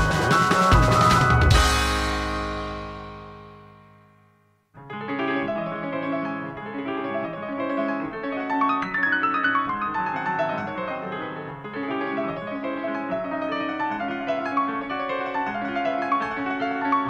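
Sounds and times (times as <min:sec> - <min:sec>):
instrumental piano music: 0:00.0 - 0:17.0.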